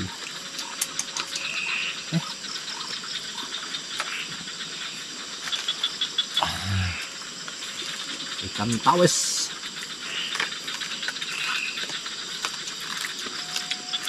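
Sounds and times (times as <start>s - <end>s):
insects and frogs trilling: 0.0s - 14.0s.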